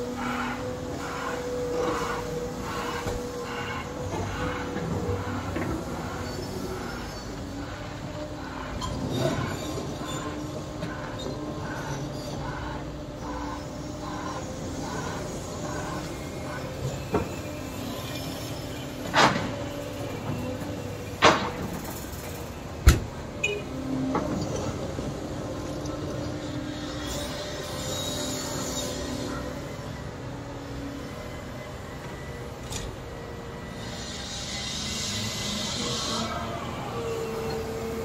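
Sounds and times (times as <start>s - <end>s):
excavator engine and hydraulics humming: 0.0s - 38.0s.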